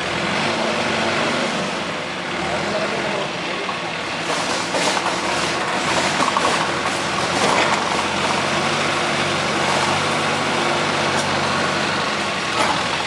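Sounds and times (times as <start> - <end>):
crane diesel engine running: 0.0 - 13.0.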